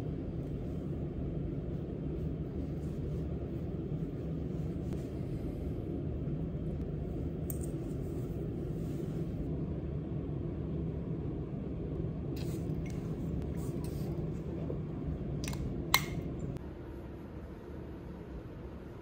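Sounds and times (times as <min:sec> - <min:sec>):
low room tone rumble: 0:00.0 - 0:19.0.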